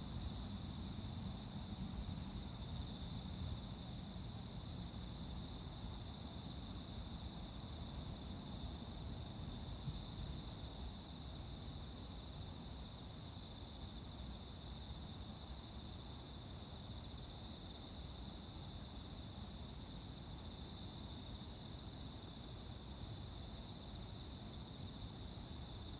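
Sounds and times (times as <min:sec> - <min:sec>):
insects chirping: 0:00.0 - 0:25.9.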